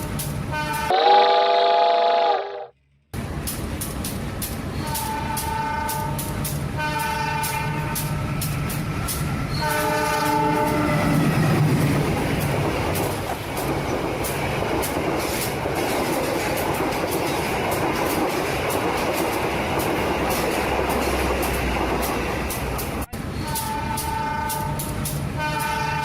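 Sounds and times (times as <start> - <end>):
train rumbling on rails: 0.0 - 1.9, 2.7 - 26.0
wheels clicking over track: 3.2 - 25.2.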